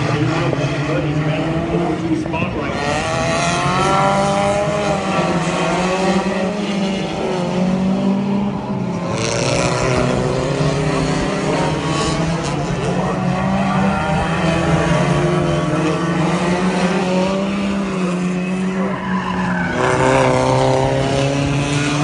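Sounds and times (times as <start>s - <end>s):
race car engines revving: 0.0s - 22.0s.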